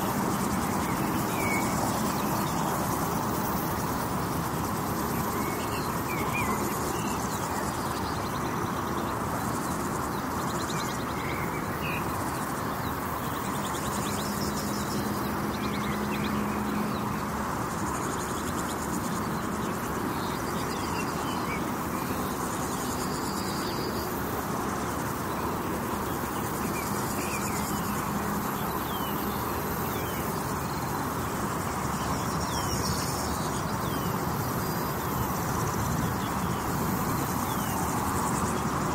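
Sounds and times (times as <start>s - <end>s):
highway traffic drone: 0.0s - 38.9s
insects buzzing: 0.0s - 38.9s.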